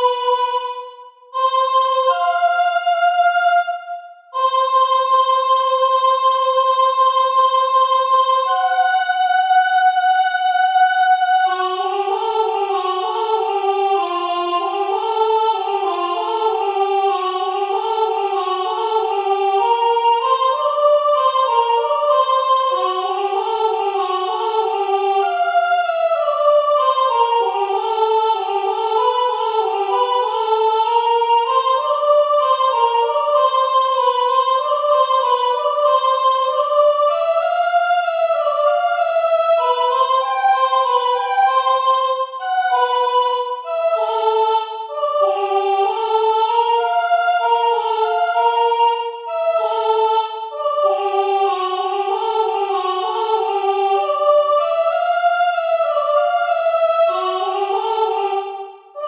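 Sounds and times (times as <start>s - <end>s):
soprano voice singing a cappella: 0.0s - 59.0s.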